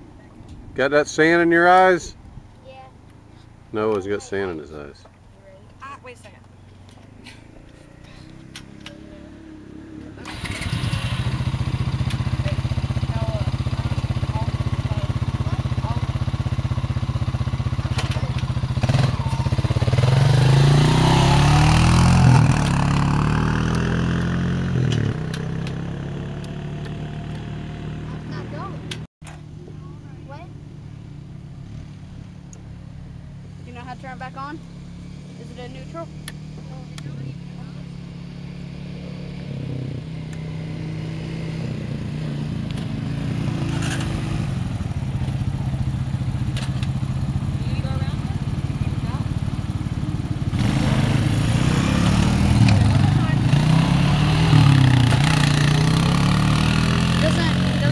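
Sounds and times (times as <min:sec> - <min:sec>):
quad engine idling and revving: 0:07.0 - 0:30.6, 0:31.3 - 0:57.9.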